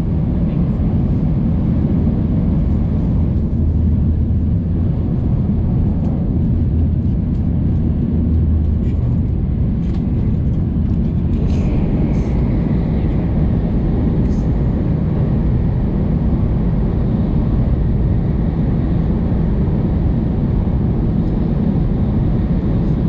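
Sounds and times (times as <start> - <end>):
train interior low rumble: 0.0 - 23.0.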